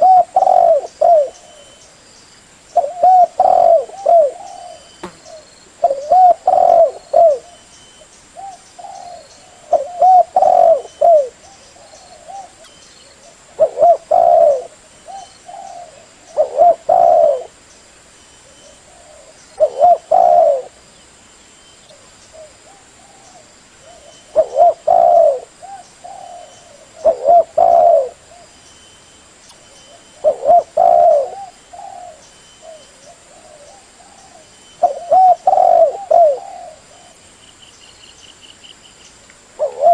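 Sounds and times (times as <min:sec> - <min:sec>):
dove cooing: 0:00.0 - 0:01.8, 0:02.8 - 0:07.7, 0:08.4 - 0:17.6, 0:18.4 - 0:20.8, 0:21.9 - 0:28.5, 0:29.9 - 0:37.2, 0:39.6 - 0:39.9.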